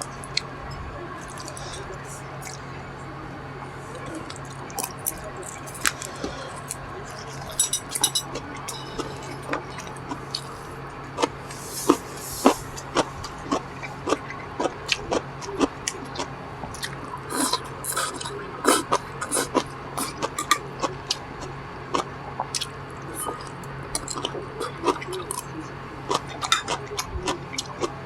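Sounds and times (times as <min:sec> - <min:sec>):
person chewing crunchy food: 0:04.2 - 0:28.0.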